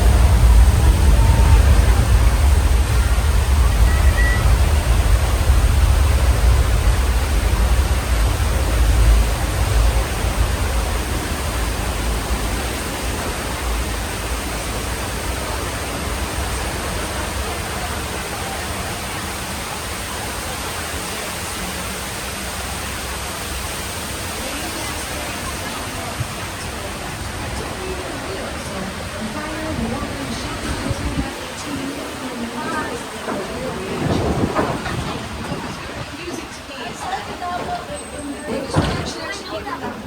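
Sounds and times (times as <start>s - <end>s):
heavy low rumble: 0.0s - 36.4s
rushing water: 0.0s - 40.0s.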